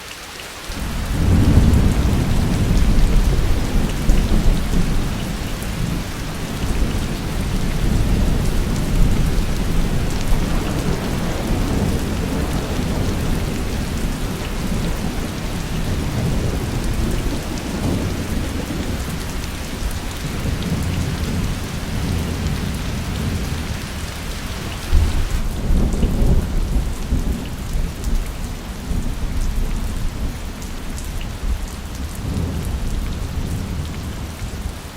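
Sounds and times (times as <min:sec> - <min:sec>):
heavy rain: 0:00.0 - 0:34.9
low rolling thunder: 0:00.8 - 0:34.9.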